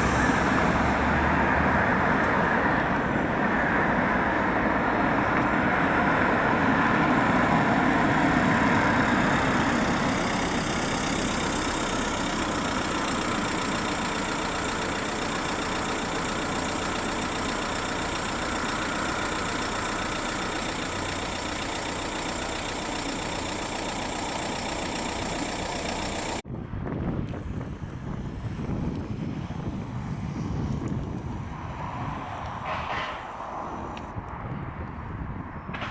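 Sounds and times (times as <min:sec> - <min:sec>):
road traffic: 0:00.0 - 0:35.9.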